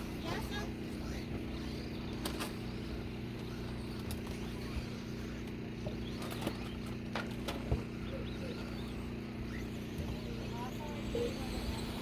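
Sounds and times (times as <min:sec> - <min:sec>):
rc trucks low hum: 0:00.0 - 0:12.0.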